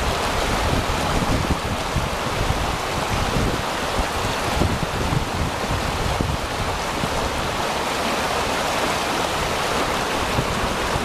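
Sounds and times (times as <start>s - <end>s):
river rushing: 0.0s - 11.0s
wind buffeting microphone: 0.0s - 11.0s.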